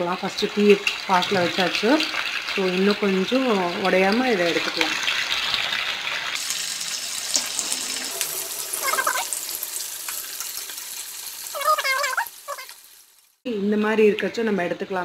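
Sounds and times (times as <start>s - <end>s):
oil sizzling and bubbling: 0.0s - 13.5s.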